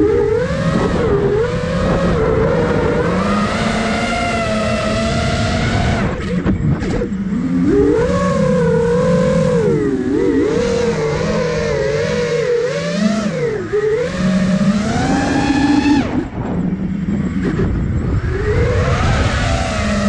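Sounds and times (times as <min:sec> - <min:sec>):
drone motors buzzing whine: 0:00.0 - 0:20.0.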